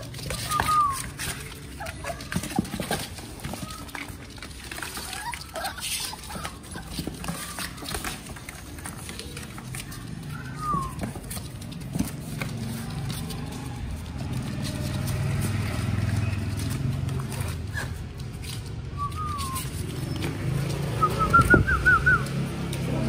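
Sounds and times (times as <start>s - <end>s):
puppy whining: 0.0s - 23.0s.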